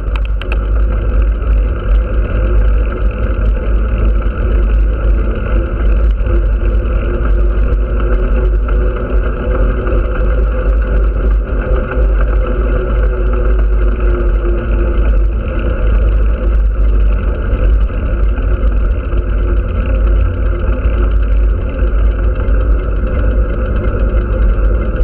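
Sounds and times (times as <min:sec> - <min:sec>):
faint steady hum: 0:00.0 - 0:25.0
road and tyre noise: 0:00.0 - 0:25.0.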